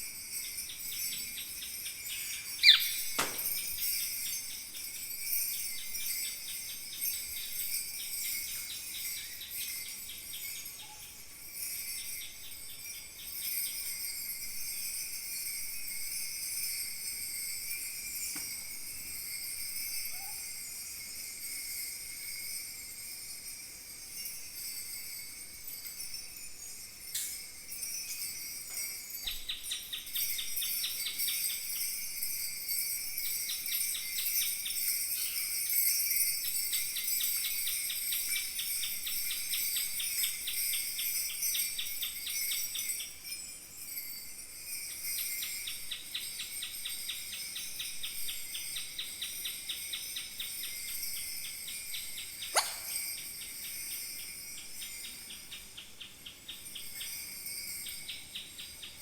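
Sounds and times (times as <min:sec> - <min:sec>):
bronze bells jingling: 0:00.0 - 0:59.0.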